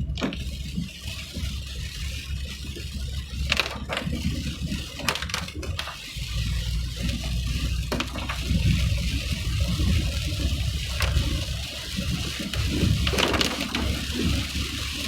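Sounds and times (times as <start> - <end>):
vehicle driving on wet road: 0.0 - 15.0.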